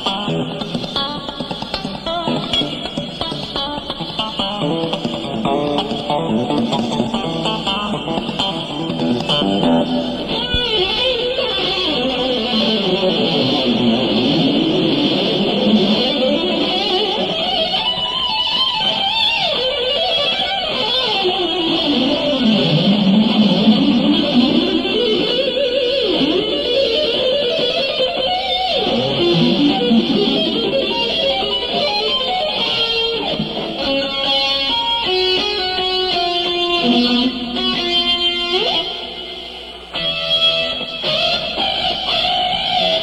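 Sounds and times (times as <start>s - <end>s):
electric guitar playing: 0.0s - 43.0s.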